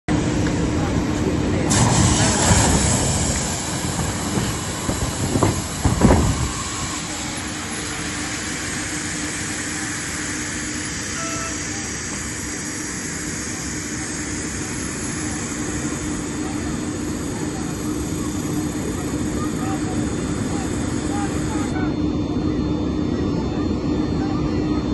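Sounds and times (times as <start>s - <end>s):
steady low hum: 0.1s - 24.9s
evacuation slide inflating hiss: 1.7s - 21.8s.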